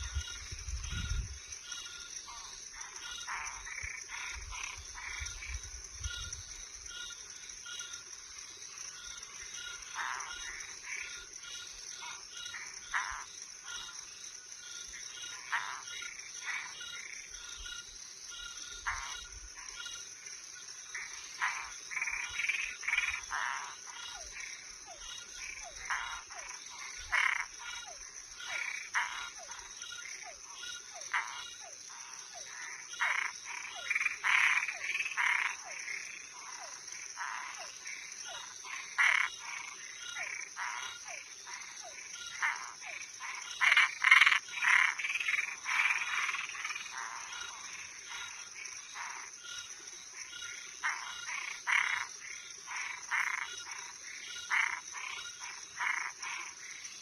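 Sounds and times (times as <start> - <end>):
frogs croaking: 0.0 - 57.0
high-pitched insect trill: 0.0 - 57.0.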